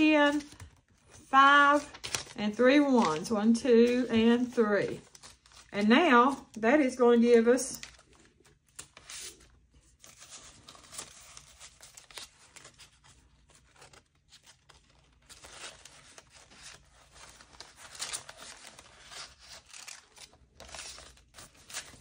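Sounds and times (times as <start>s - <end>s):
paper banknotes rustling: 0.0s - 6.6s, 7.2s - 22.0s.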